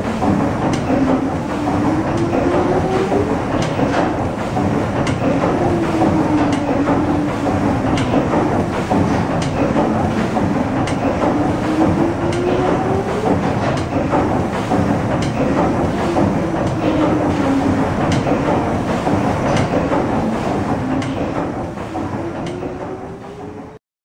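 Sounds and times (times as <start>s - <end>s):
steam engine clatter: 0.0s - 23.8s.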